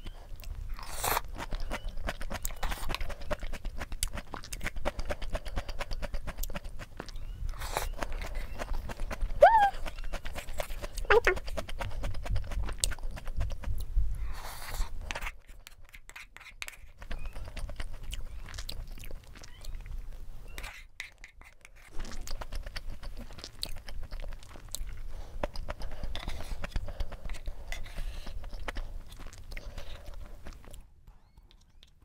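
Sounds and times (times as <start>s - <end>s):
chewing: 0.0s - 32.0s.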